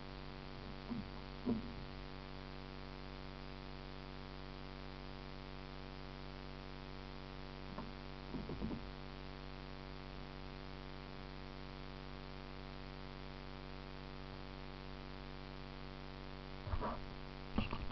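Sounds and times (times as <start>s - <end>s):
electrical hum with hiss: 0.0s - 17.9s.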